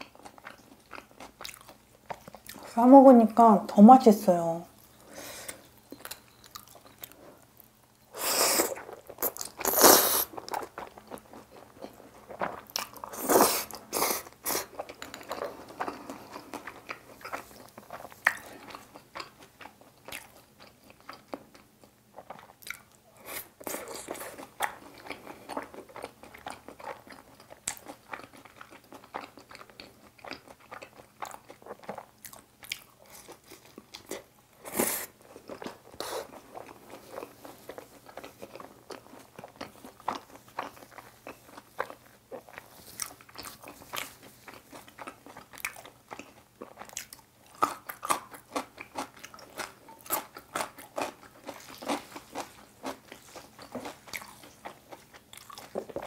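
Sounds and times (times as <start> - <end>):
person chewing and crunching food: 0.0 - 2.8, 4.8 - 56.0.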